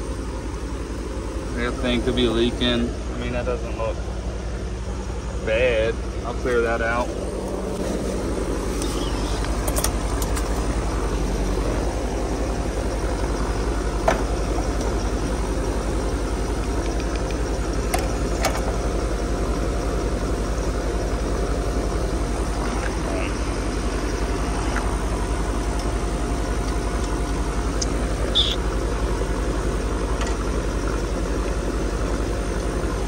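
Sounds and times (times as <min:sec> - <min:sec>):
air conditioner humming: 0:00.0 - 0:33.0.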